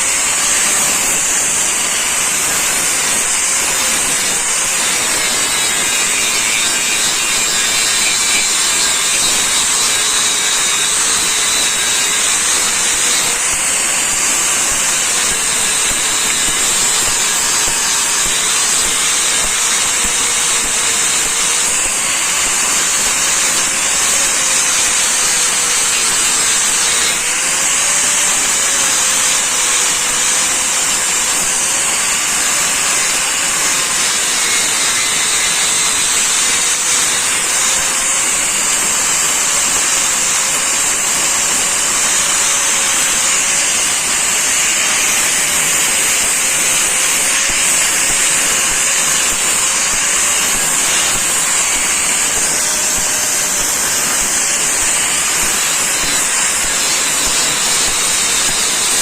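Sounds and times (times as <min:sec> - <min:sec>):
grinder hissing on metal: 0:00.0 - 0:59.0
grinder motor hum: 0:00.0 - 0:59.0.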